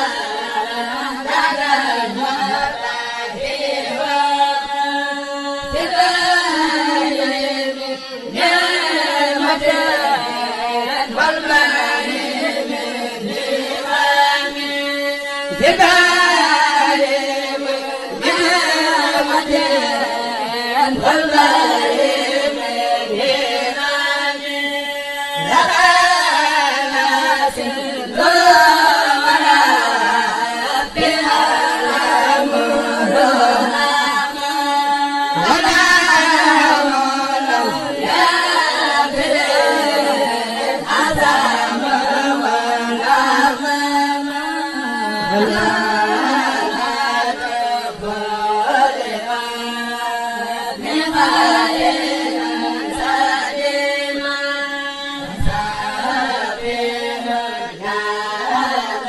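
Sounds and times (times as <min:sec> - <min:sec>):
group singing a cappella: 0:00.0 - 0:59.0.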